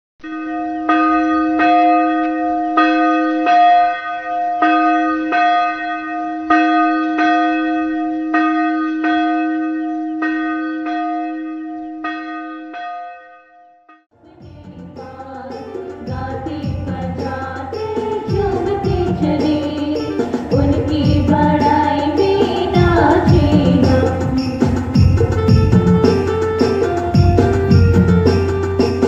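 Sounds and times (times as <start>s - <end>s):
church bell tolling: 0.2s - 13.9s, 14.5s - 29.0s.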